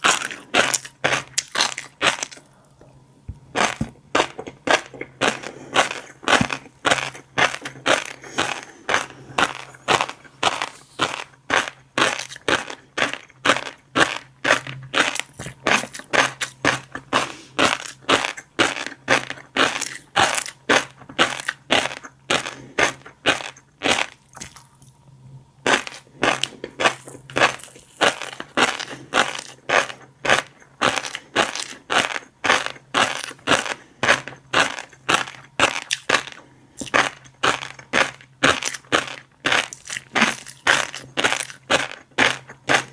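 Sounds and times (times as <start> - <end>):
chewing fish eggs popping: 0.0 - 25.0, 25.6 - 42.9
steady low hum: 0.0 - 42.9.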